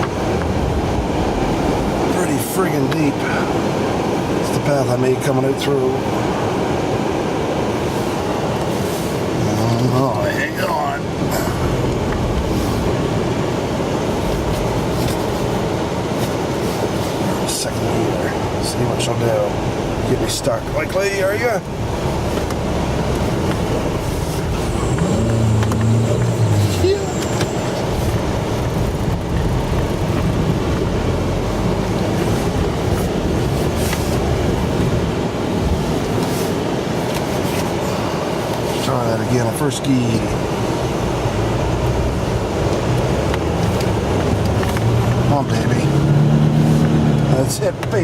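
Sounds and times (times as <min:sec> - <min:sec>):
tyres churning through snow: 0:00.0 - 0:48.0
vehicle engine rumbling: 0:00.0 - 0:48.0.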